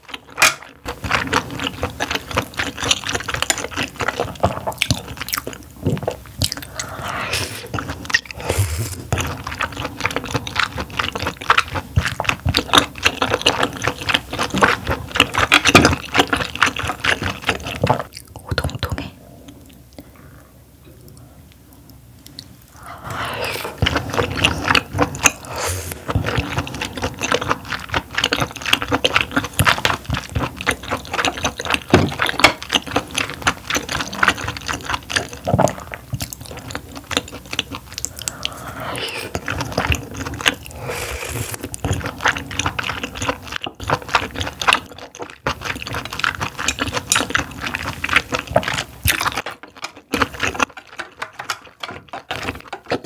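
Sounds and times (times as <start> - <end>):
chewing mouth clicks: 0.4 - 20.1, 20.9 - 53.0.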